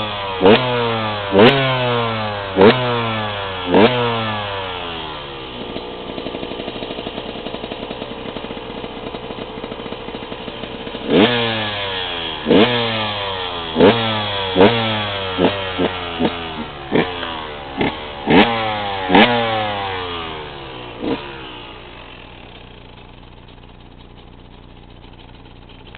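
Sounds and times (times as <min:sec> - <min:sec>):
two-stroke engine idling and revving: 0:00.0 - 0:25.9.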